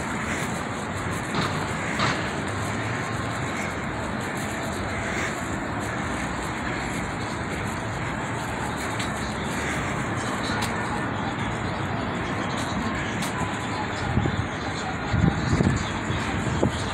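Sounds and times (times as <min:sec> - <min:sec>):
traffic hum: 0:00.0 - 0:16.9.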